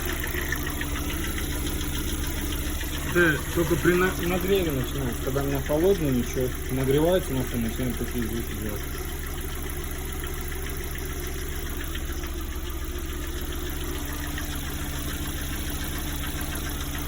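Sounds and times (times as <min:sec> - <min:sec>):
engine idling with fast knock: 0:00.0 - 0:17.0.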